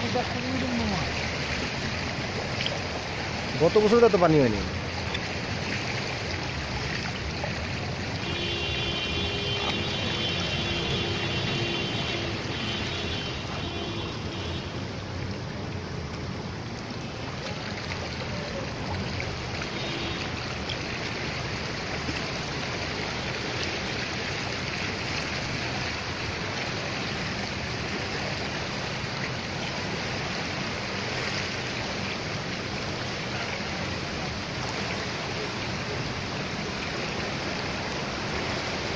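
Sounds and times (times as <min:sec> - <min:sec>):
floodwater rushing and sloshing: 0:00.0 - 0:38.9.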